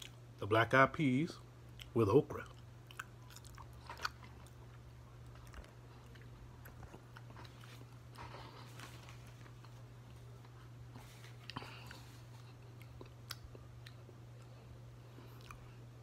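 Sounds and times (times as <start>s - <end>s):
chewing food: 0.0s - 0.3s, 1.6s - 15.9s
low steady hum: 0.0s - 16.0s.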